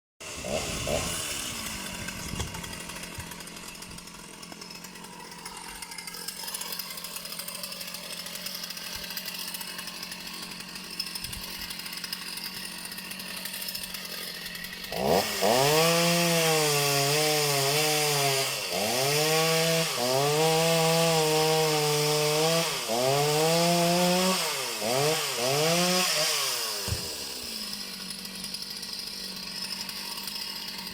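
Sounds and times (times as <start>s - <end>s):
chainsaw revving: 0.2s - 30.9s.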